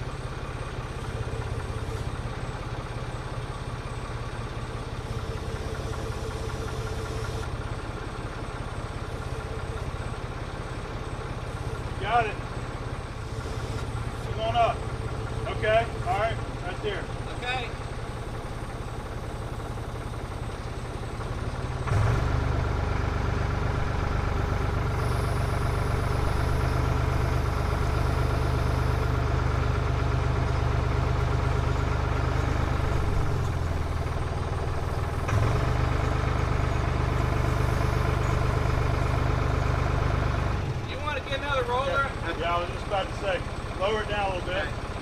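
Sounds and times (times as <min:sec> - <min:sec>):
forklift engine running: 0:00.0 - 0:45.0.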